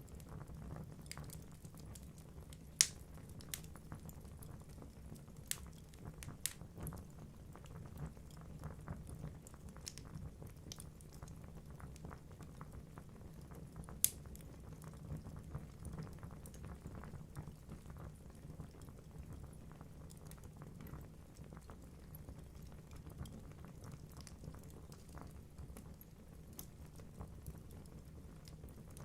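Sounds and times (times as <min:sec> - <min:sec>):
low rumble of flames: 0:00.0 - 0:29.0
logs crackling and popping: 0:00.1 - 0:29.0.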